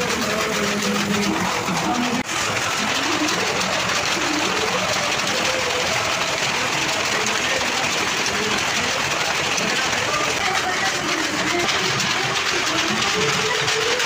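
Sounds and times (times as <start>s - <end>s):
power loom clattering: 0.0s - 14.0s.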